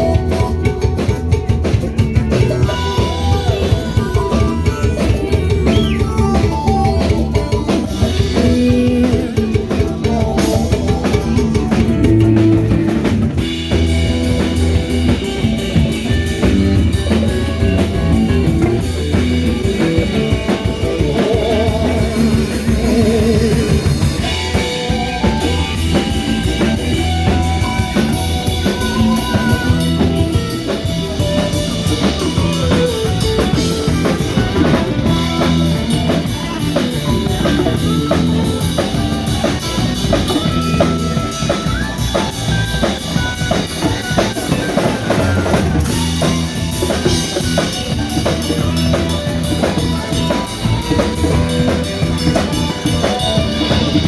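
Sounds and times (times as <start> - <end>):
drum kit steady beat: 0.0 - 54.0
guitar playing: 0.0 - 54.0.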